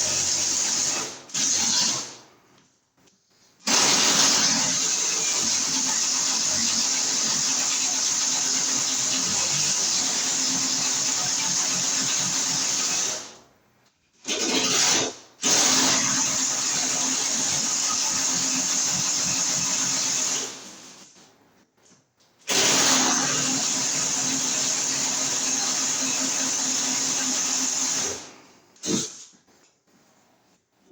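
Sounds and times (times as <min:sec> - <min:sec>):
electric drill boring: 0:00.0 - 0:02.2, 0:03.7 - 0:13.3, 0:14.3 - 0:20.9, 0:22.5 - 0:29.0.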